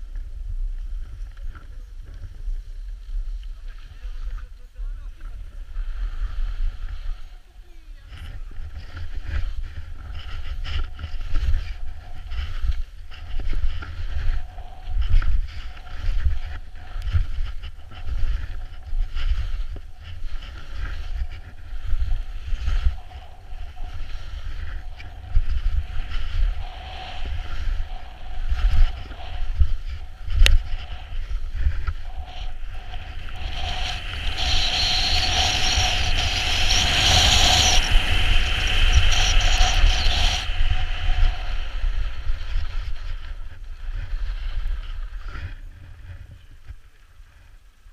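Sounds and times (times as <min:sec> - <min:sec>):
wind buffeting microphone: 0:00.0 - 0:46.9
skis scraping on snow: 0:00.7 - 0:47.4.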